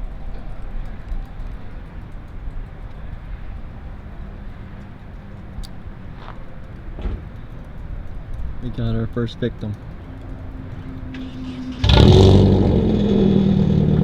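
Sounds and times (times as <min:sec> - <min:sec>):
low rumble of vehicles: 0:00.0 - 0:14.0.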